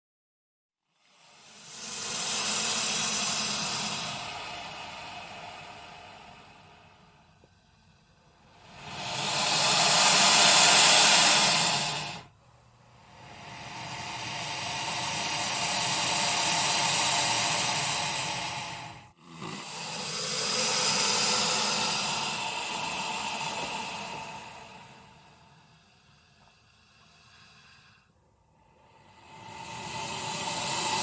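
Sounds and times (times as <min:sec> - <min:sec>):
alligator hissing: 0:00.9 - 0:31.0.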